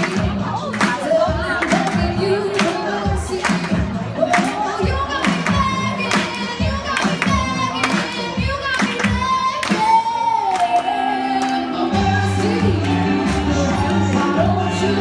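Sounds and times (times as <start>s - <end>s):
backing track with steady beat: 0.0s - 15.0s
woman singing into microphone: 0.0s - 15.0s.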